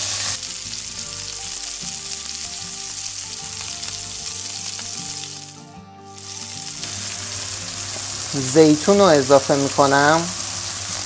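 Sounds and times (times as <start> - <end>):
background music: 0.0 - 11.0
vegetables sizzling in oil: 0.0 - 11.0.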